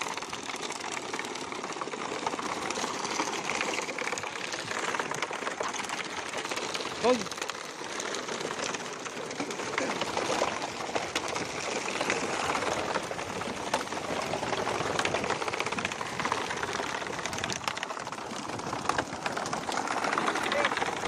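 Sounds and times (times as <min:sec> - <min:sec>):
fish flapping against net and slats: 0:00.0 - 0:21.0
splashing water: 0:00.0 - 0:21.0.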